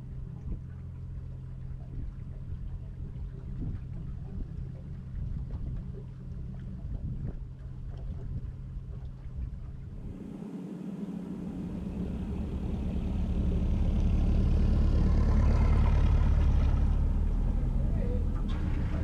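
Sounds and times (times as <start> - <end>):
boat diesel engines running: 0.0 - 19.0.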